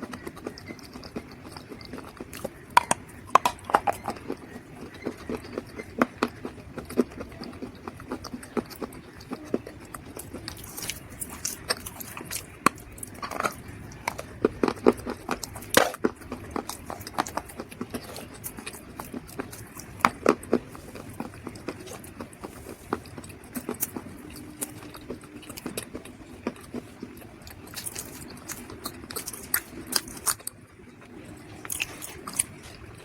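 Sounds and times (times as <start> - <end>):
dried mud crunching: 0.0 - 30.4.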